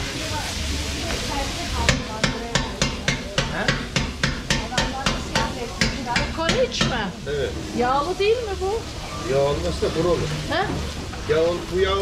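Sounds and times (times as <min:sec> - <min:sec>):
voices: 0:00.0 - 0:03.8, 0:04.5 - 0:11.8.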